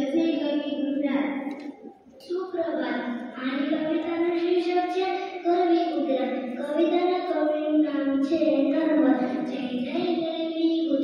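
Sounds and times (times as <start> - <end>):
boy chanting into a microphone: 0.0 - 11.0.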